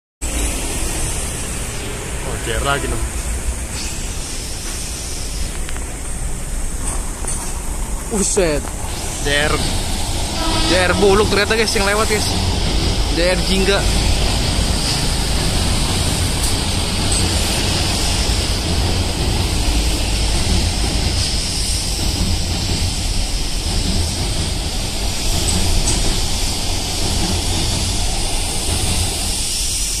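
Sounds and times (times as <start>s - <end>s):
train rail noise on bridge: 0.2s - 30.0s.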